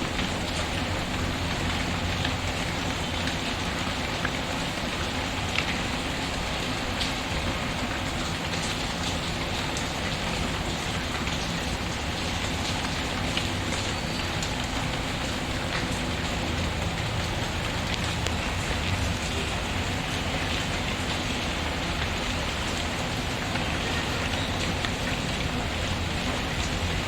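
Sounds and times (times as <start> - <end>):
steady rain patter: 0.0 - 27.0.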